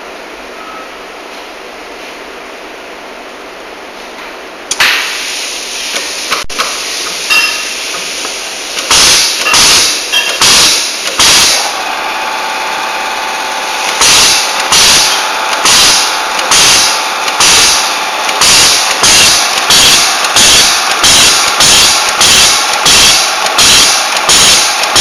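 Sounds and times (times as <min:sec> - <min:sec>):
machine strokes with hiss bursts: 0:04.7 - 0:25.0
wire stripping machine hissing: 0:04.7 - 0:25.0.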